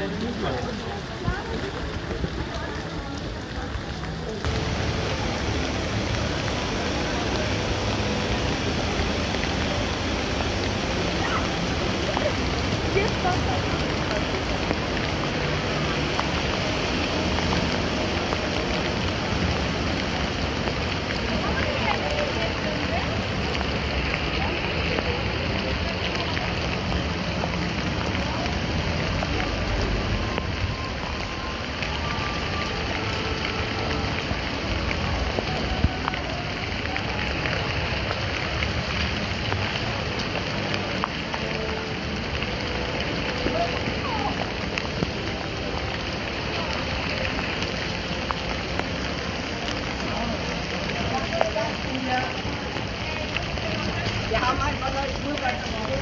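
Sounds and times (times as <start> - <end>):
heavy rain hissing: 0.0 - 56.0
raindrop splashes: 0.0 - 56.0.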